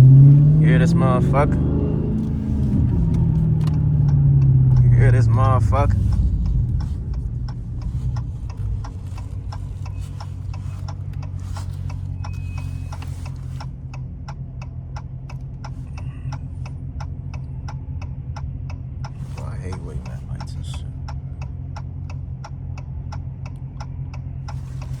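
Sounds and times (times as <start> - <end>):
car engine idling: 0.0 - 25.0
turn signal ticking: 0.0 - 25.0.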